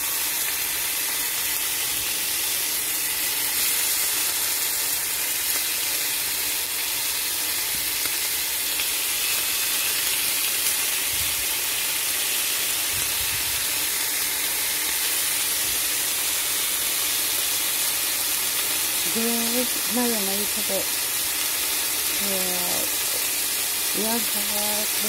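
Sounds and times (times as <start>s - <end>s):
chicken sizzling in grill pan: 0.0s - 25.0s.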